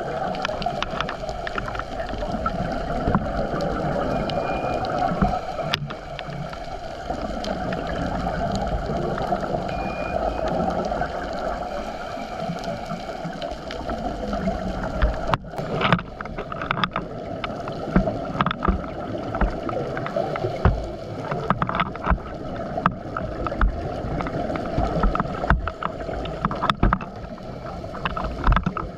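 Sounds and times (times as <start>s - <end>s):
boat engine and water drone: 0.0s - 28.9s.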